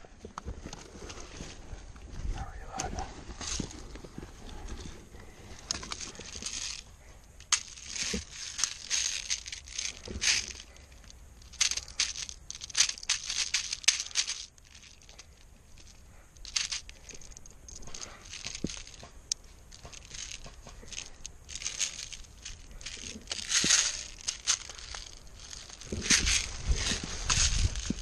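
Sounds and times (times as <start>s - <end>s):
footsteps crunching on dry ground: 0.0s - 28.0s
gear rustling: 0.2s - 28.0s.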